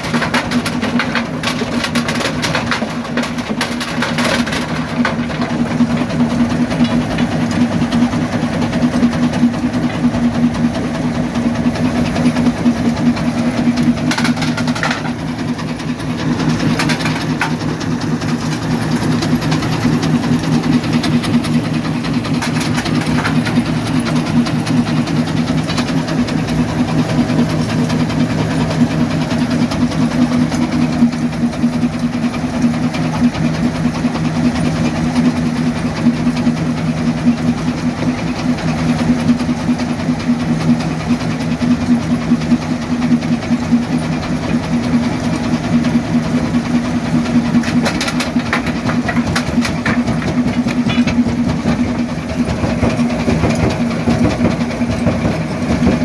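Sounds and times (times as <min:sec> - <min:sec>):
rock crusher pulsing drone: 0:00.0 - 0:32.6, 0:42.7 - 0:56.0.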